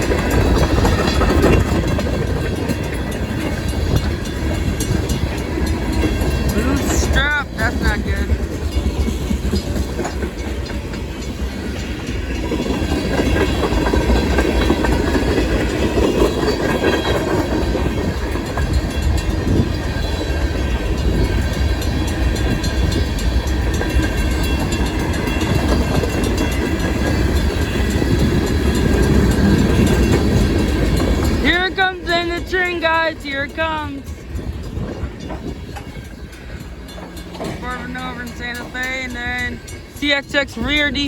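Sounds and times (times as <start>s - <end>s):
clickety-clack of rail joints: 0.0s - 41.0s
train cars rolling on rails: 0.0s - 41.0s.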